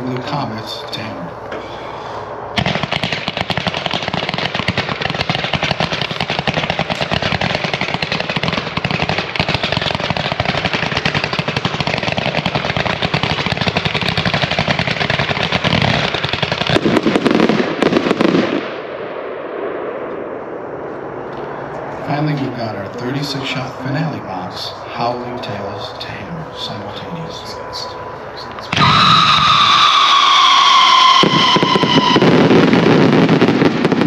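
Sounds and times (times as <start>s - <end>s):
fireworks shots and bangs: 2.6s - 20.1s, 22.1s - 34.0s.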